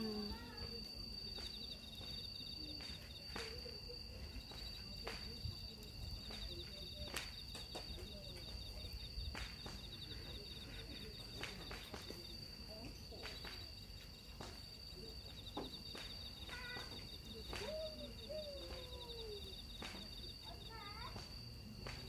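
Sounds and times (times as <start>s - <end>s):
cricket high-pitched trill: 0.0s - 22.0s
cricket pulsing trill: 0.0s - 22.0s.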